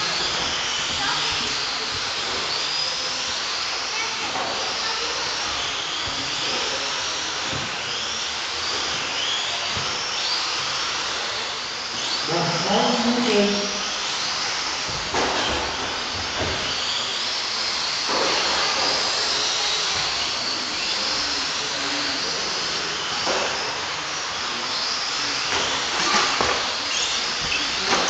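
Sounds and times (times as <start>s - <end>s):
electric rc car motors whining: 0.0s - 28.0s.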